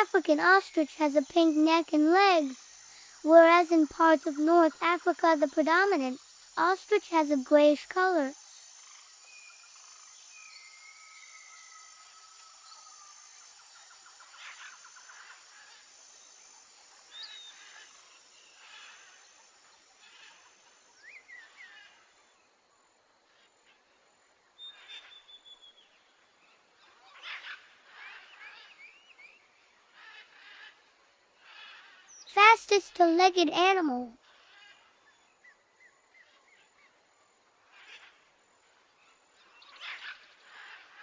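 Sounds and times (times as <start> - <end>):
small birds chirping: 0.0 - 22.4, 24.6 - 41.0
light hiss: 0.0 - 41.0.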